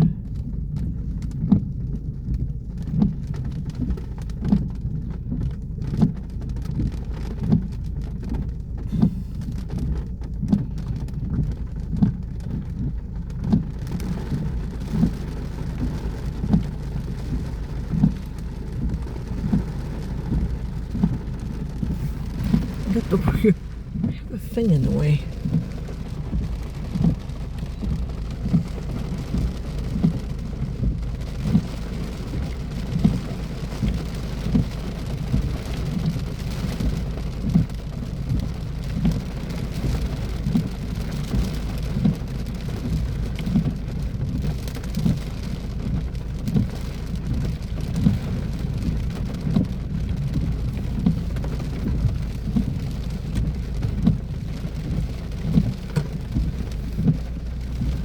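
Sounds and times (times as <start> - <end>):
heavy rain falling: 0.0 - 58.0
large raindrops tapping: 0.0 - 58.0.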